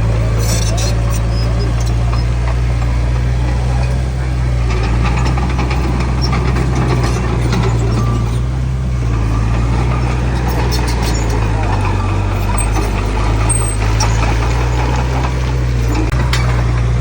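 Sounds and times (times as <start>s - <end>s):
heavy diesel engine running: 0.0s - 17.0s
light clatter: 0.1s - 17.0s.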